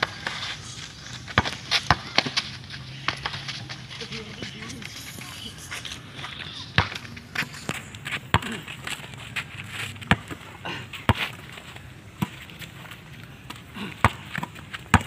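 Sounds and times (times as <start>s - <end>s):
basketball bouncing on dirt: 1.2s - 4.7s, 6.2s - 15.0s.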